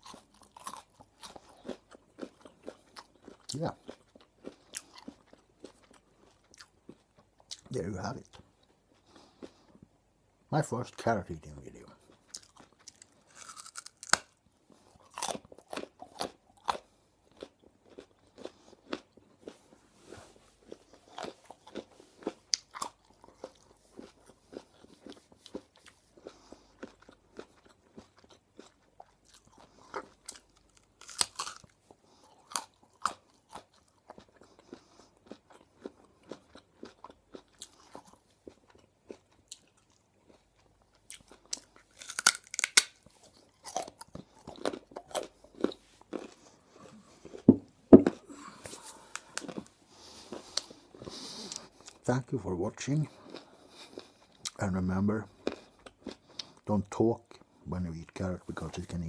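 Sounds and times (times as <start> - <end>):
carrot crunching being chewed: 0.0 - 9.9, 10.8 - 59.0.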